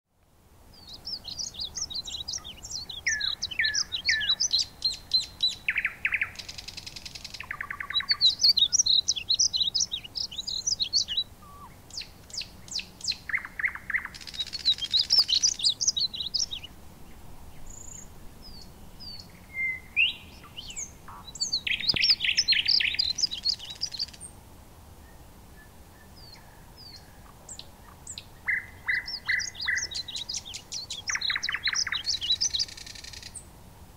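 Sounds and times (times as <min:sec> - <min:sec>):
small birds chirping and trilling: 0:00.7 - 0:24.4, 0:25.0 - 0:33.5
buzzy bird calls: 0:00.8 - 0:16.8, 0:17.6 - 0:24.3, 0:26.0 - 0:33.4.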